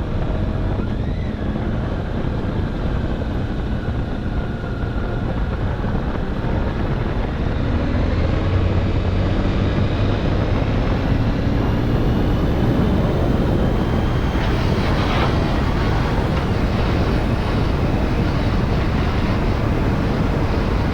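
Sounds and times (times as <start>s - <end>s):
wind rush on microphone: 0.0s - 20.9s.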